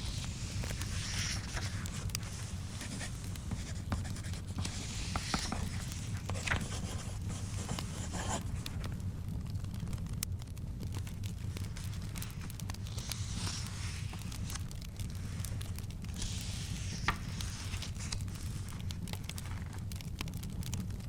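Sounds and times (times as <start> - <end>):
paper rustling: 0.0 - 8.9, 11.5 - 20.0
wood fire crackling: 0.0 - 21.0.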